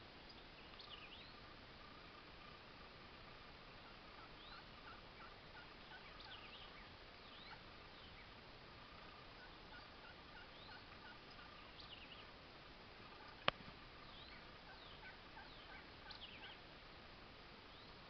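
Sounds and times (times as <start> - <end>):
quiet hiss: 0.0 - 18.0
small birds chirping: 0.0 - 18.0
distant turkey gobbling: 0.8 - 12.3, 13.0 - 16.7.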